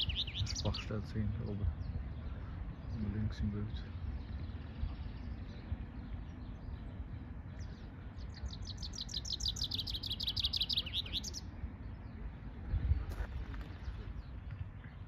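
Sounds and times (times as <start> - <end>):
songbird trill: 0.0 - 15.0
steady low rumble: 0.0 - 15.0.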